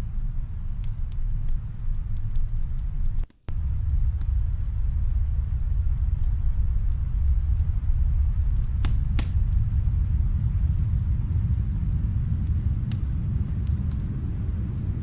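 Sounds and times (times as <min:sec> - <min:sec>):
deep rumble: 0:00.0 - 0:15.0
wood fire crackling and popping: 0:00.0 - 0:15.0.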